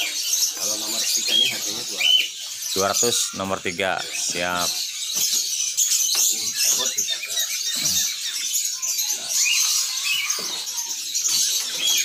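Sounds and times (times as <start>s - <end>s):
songbirds chirping and twittering: 0.0s - 12.0s.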